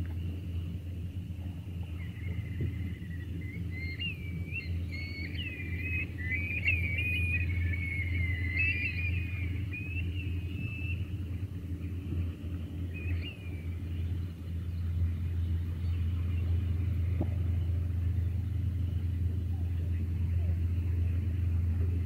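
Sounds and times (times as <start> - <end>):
shorebirds chirping: 0.0 - 22.0
steady low rumble: 0.0 - 22.0.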